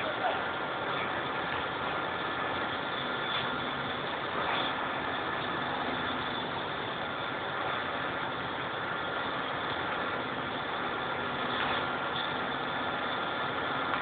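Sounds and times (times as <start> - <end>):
heavy vehicle engines idling: 0.0 - 14.0.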